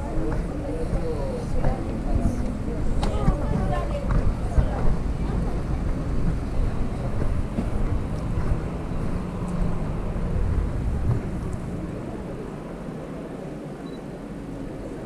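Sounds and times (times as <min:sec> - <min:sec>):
street noise: 0:00.0 - 0:15.0
wind buffeting microphone: 0:00.0 - 0:15.0.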